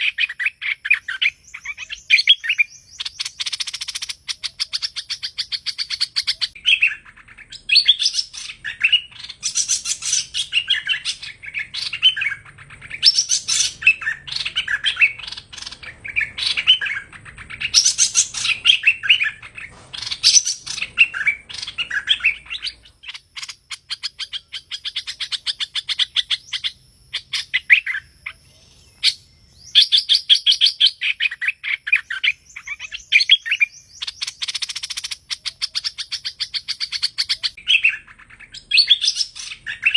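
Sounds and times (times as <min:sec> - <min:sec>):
songbird chirping song: 0:00.0 - 0:39.9.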